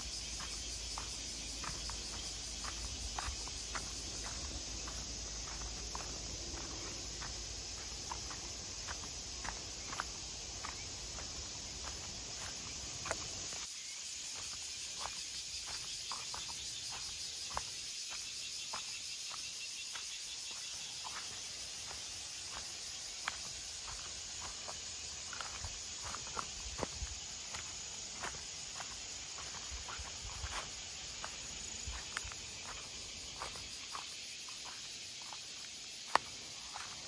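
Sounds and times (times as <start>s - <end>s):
footsteps on dry leafy trail: 0.0s - 37.0s
insect hiss: 0.0s - 37.0s.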